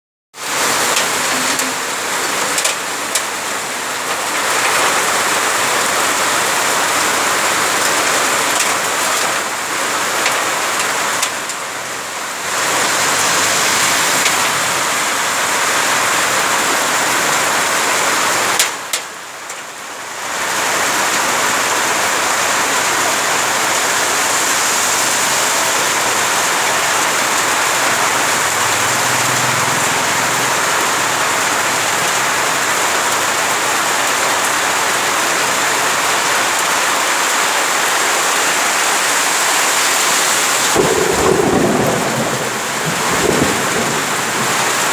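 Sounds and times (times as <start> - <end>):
heavy rain falling: 0.4 - 44.9.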